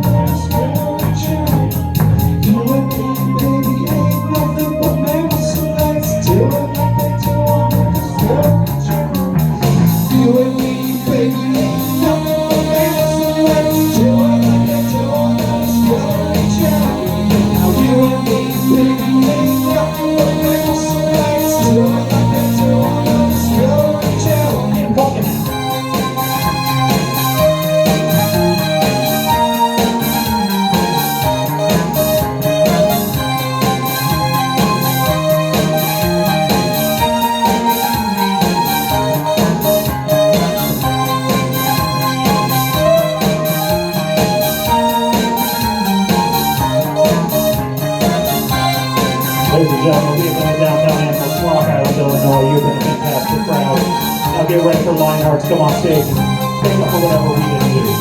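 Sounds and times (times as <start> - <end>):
drums keeping a steady beat: 0.0 - 58.0
guitar: 0.0 - 58.0
keyboard chords: 0.0 - 58.0
person singing: 0.0 - 58.0.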